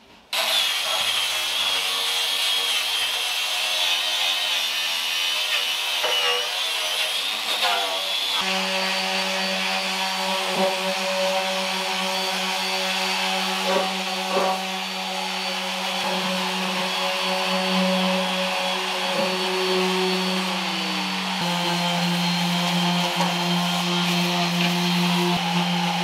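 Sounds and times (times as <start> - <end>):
orbital sander on steel: 0.4 - 26.0.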